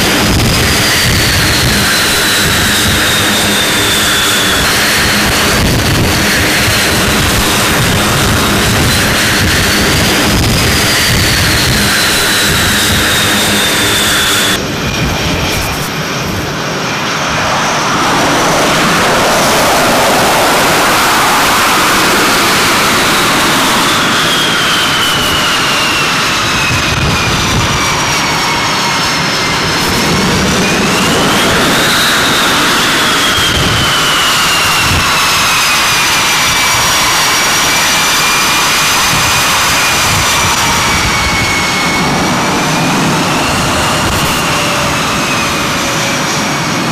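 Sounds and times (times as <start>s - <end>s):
jet engines roaring with turbine whine: 0.0s - 46.9s.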